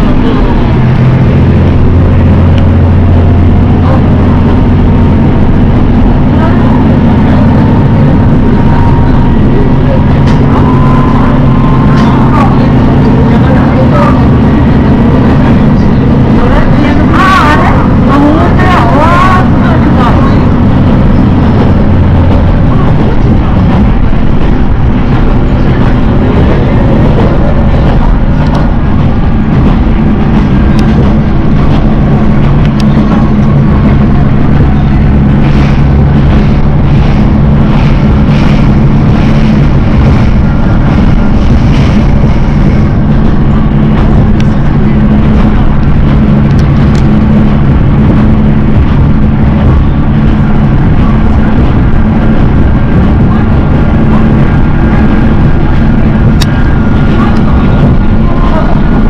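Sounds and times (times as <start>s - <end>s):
diesel engine drone: 0.0s - 59.0s
train running noise: 0.0s - 59.0s
wheels on rails: 0.0s - 59.0s.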